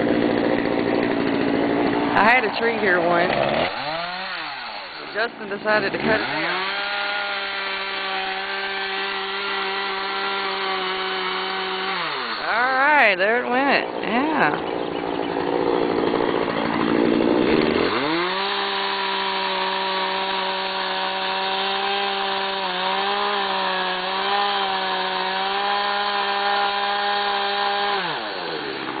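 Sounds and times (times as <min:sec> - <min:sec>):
chainsaw engine revving: 0:00.0 - 0:29.0.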